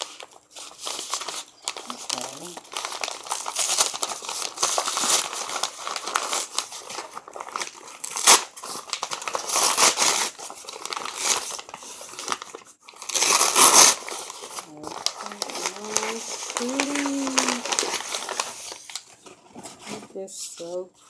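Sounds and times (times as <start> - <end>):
paper wrapping crinkling: 0.0 - 20.8.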